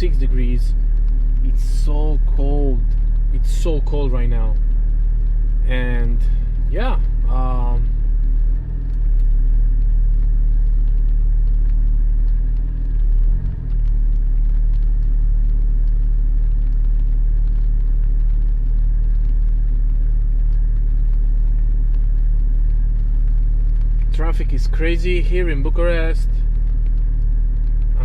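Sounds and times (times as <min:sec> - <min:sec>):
car engine running: 0:00.0 - 0:28.0
road rumble: 0:00.0 - 0:28.0.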